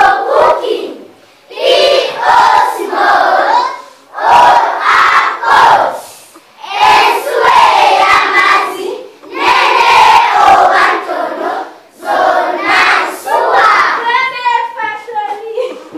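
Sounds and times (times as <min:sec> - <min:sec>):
children singing together: 0:00.0 - 0:14.1.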